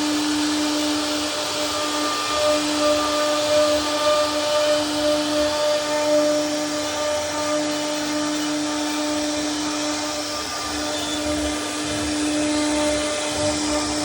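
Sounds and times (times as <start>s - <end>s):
router spindle whining: 0.0s - 14.0s.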